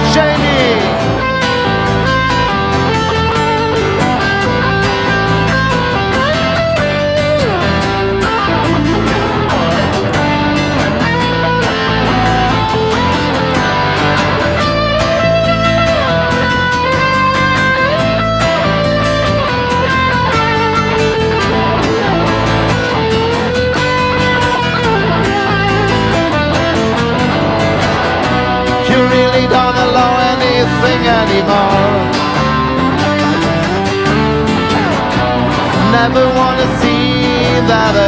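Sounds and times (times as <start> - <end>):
bass guitar: 0.0 - 38.0
rock band playing: 0.0 - 38.0
sliding electric guitar lead: 0.0 - 38.0.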